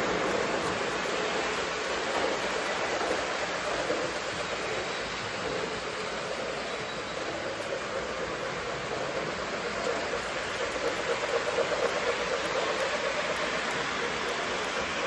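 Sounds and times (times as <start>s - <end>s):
model trains rolling on track: 0.0s - 15.0s.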